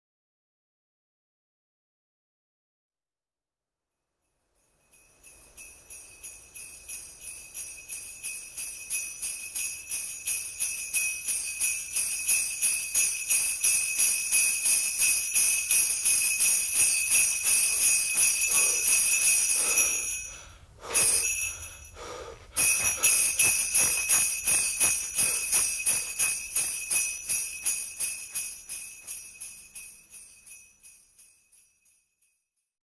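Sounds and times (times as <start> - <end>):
sleigh bells shaking: 4.6 - 32.3.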